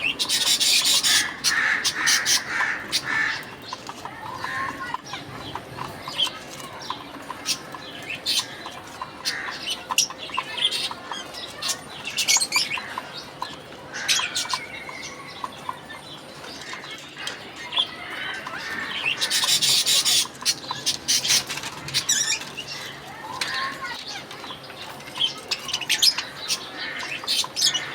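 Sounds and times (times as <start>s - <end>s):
budgerigars chirping: 0.0s - 27.9s.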